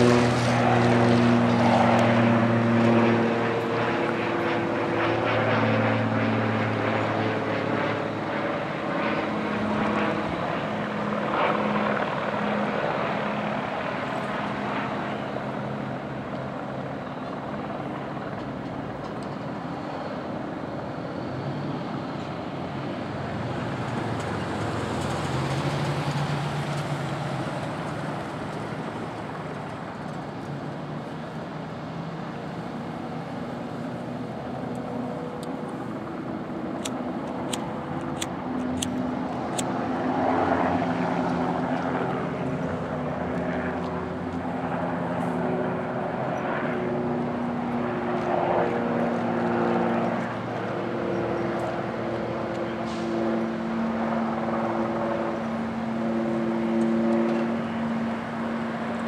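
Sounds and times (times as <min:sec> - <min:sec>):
aircraft engine drone overhead: 0:00.0 - 0:59.0.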